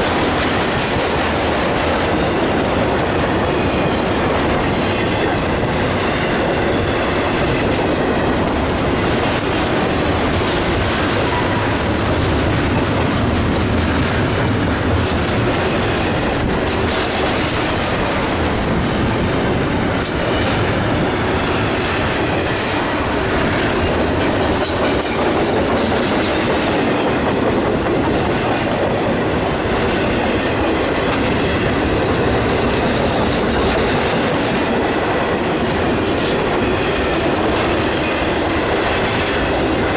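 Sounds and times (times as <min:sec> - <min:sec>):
wheels clicking over rail joints: 0:00.0 - 0:39.9.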